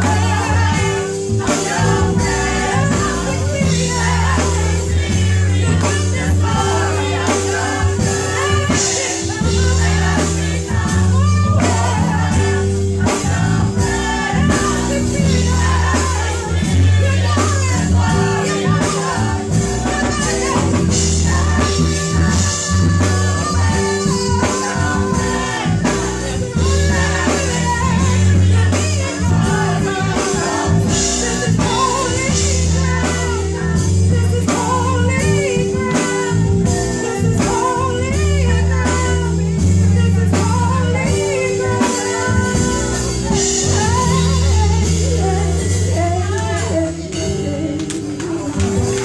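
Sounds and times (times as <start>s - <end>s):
bass line and steady beat: 0.0s - 49.0s
women singing gospel: 0.0s - 49.0s.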